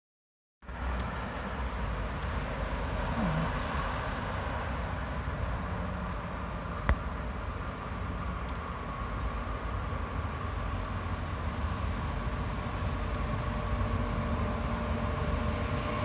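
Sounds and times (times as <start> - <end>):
distant vehicles rumbling: 0.6 - 16.0.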